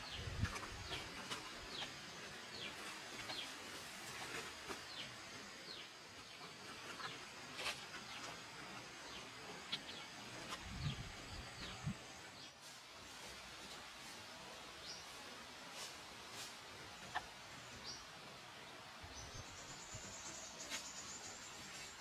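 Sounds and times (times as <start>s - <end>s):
forest background noise: 0.0s - 22.0s.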